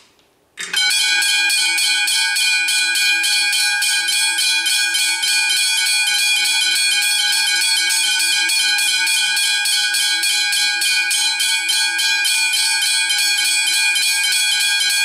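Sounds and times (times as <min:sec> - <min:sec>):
level crossing bells ringing: 0:00.7 - 0:15.0.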